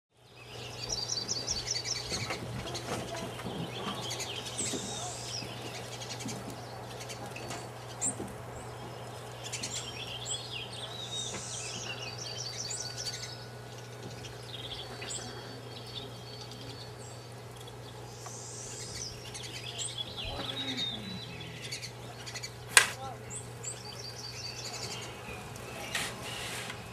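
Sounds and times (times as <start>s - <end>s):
songbirds chirping and singing: 0.2s - 26.9s
low hum: 3.2s - 26.9s.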